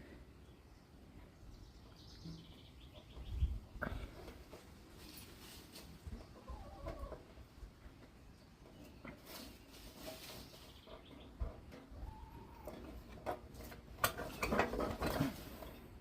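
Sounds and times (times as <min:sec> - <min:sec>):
chickens clucking: 0:01.8 - 0:16.0.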